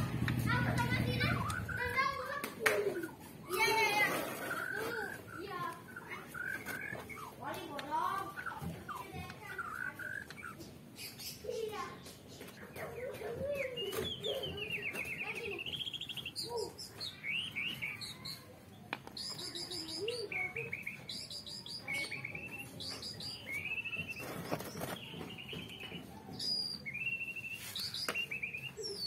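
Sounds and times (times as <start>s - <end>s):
songbirds chirping and singing: 0.0s - 29.0s.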